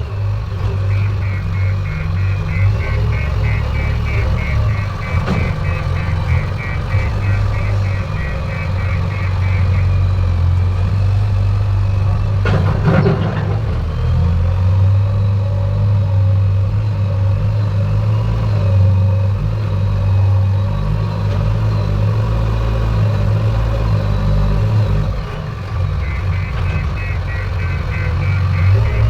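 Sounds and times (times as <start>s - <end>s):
heavy diesel engine humming: 0.0s - 29.0s.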